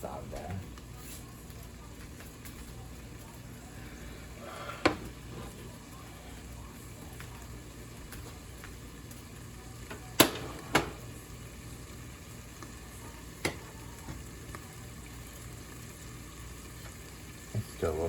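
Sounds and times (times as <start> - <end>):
onions sizzling in a frying pan: 0.0 - 18.0.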